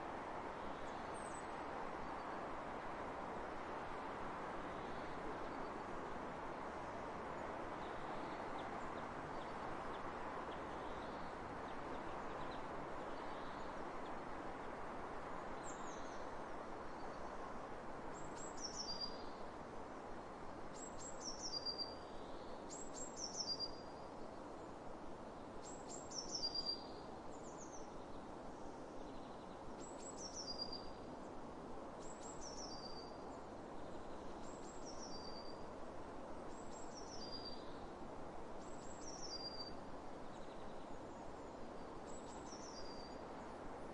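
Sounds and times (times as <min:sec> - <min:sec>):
steady wind: 0:00.0 - 0:43.9.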